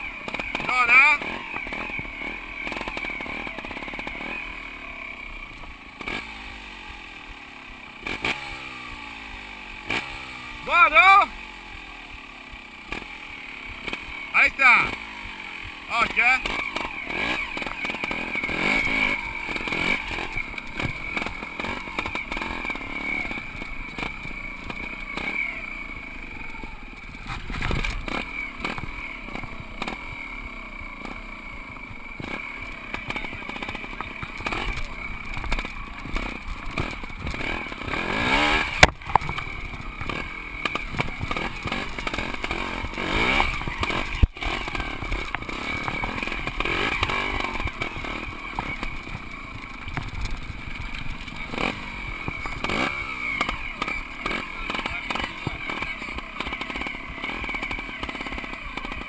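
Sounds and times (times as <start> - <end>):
motorcycle engine revving: 0.0 - 59.0
motorcycle knocking and rattling: 0.0 - 59.0.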